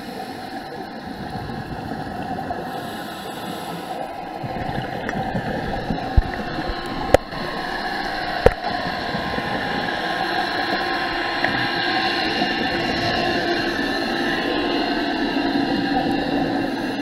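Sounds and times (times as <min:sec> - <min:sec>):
underwater bubbles gurgling: 0:00.0 - 0:17.0.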